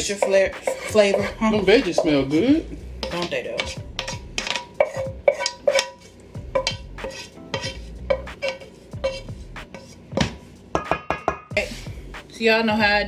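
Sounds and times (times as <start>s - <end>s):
spoon knocking metal bowl: 0.0s - 2.4s, 3.0s - 11.6s
wooden spoon scraping skillet: 0.0s - 10.9s, 11.5s - 12.6s.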